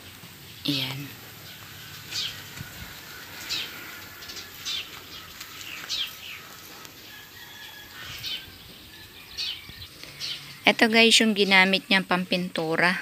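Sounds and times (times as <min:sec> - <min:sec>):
small bird chirping: 0:00.0 - 0:12.1.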